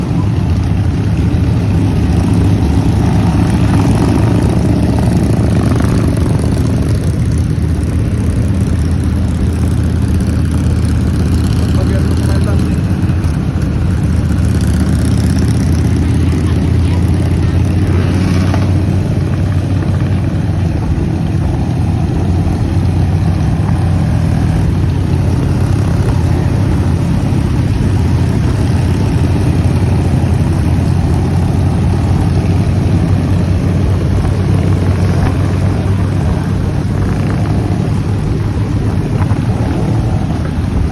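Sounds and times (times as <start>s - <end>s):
rushing noise: 0.0s - 40.9s
vehicle engine drone: 0.0s - 40.9s.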